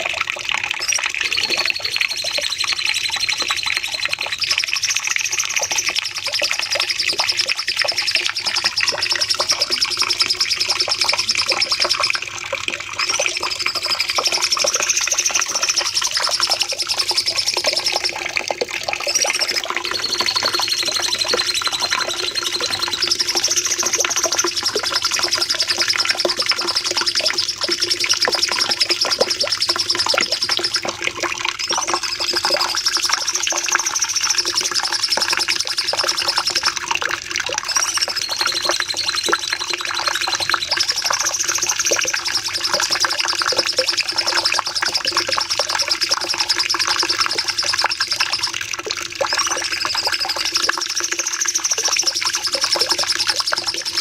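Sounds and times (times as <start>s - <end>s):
bird singing rapid chattering notes: 0.8s - 12.2s, 13.0s - 18.4s, 19.0s - 30.9s, 31.6s - 36.8s, 37.6s - 48.6s.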